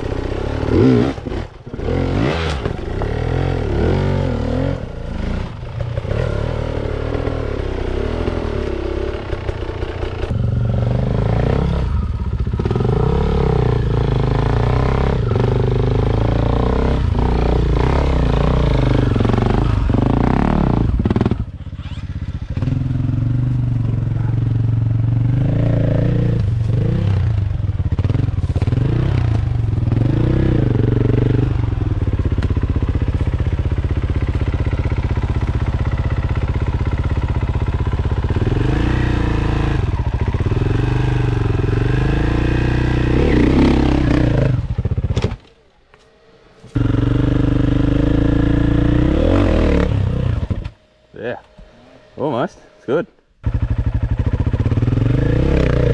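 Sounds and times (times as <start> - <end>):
dirt bike engine revving: 0.0 - 45.4, 46.2 - 55.9.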